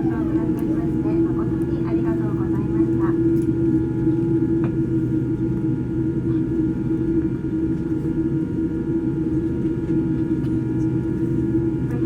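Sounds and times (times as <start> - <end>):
airliner cabin rumble and hum: 0.0 - 12.0.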